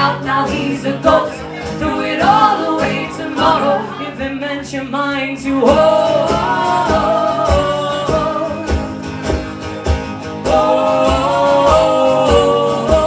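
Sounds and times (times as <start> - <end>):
person singing: 0.0 - 8.8, 10.4 - 13.0
acoustic guitar strumming: 0.0 - 13.0.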